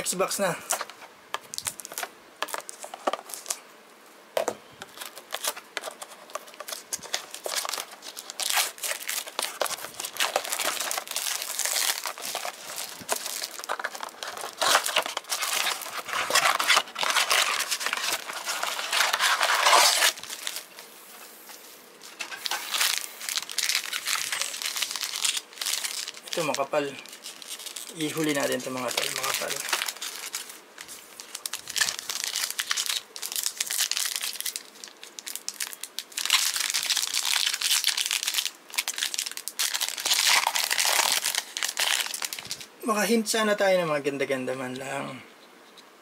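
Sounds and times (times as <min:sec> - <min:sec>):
plastic wrap tearing and crinkling: 0:00.7 - 0:03.6, 0:04.8 - 0:20.8, 0:22.0 - 0:42.7.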